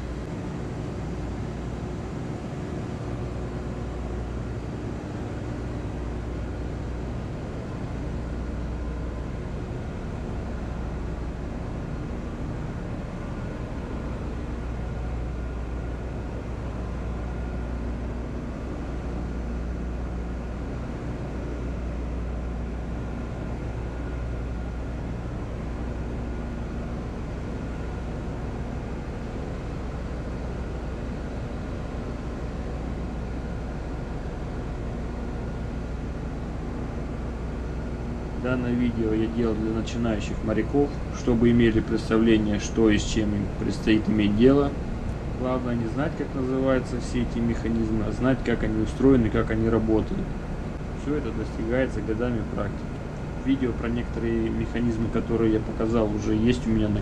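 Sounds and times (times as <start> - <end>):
deep machine hum: 0.0 - 57.0
engine-room machinery running: 0.0 - 57.0
faint steady tones: 0.0 - 57.0.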